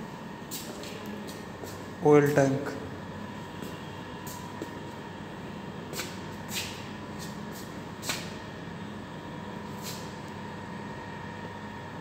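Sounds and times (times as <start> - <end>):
machine-room hum: 0.0 - 12.0.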